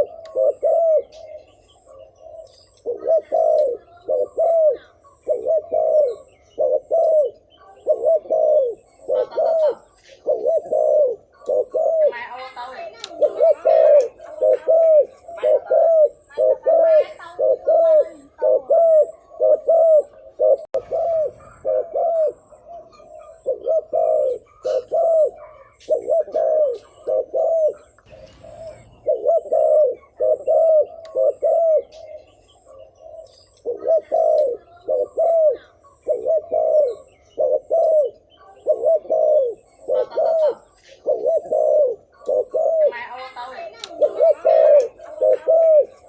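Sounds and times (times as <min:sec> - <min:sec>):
dove cooing: 0:00.0 - 0:46.0.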